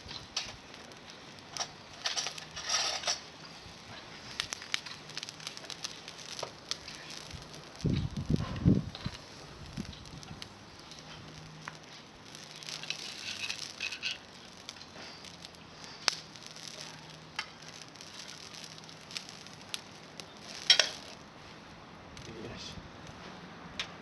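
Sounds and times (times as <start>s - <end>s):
sharp pops from fire: 0.0s - 24.0s
sizzling hiss: 0.0s - 24.0s
twig fire crackling: 0.0s - 24.0s.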